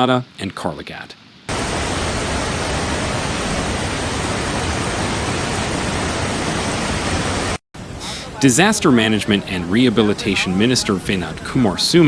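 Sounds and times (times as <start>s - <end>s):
floodwater rushing: 1.5s - 12.0s.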